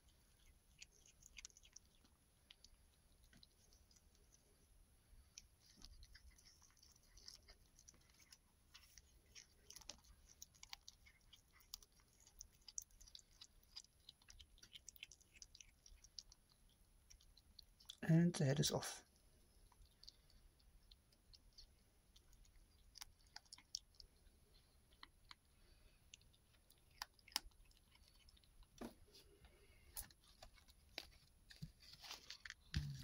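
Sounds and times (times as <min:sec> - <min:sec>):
kitten chewing wet crunches: 0:00.0 - 0:33.0.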